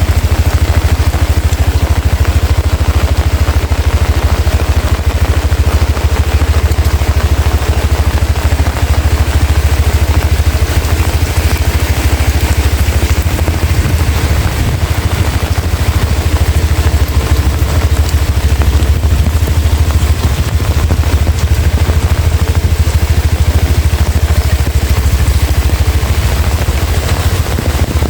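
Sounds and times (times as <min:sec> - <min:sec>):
heavy rain falling: 0:00.0 - 0:28.0
loud pulsing low rumble: 0:00.0 - 0:28.0.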